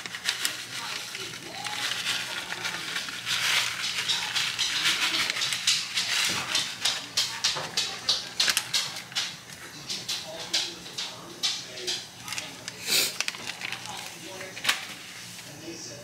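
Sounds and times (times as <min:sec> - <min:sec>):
plastic bag crinkling: 0:00.0 - 0:15.9.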